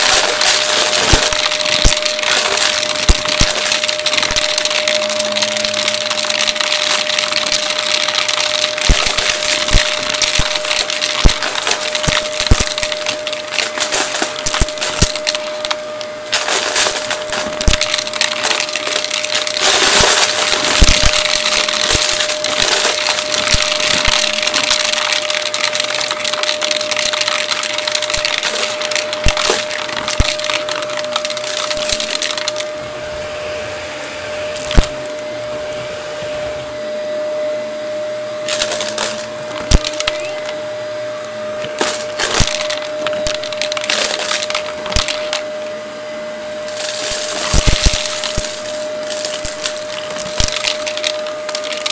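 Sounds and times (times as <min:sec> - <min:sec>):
debris clicking and rattling: 0:00.0 - 0:32.7, 0:34.5 - 0:35.0, 0:38.5 - 0:40.6, 0:41.6 - 0:45.5, 0:46.7 - 0:51.9
vacuum cleaner running: 0:00.0 - 0:51.9.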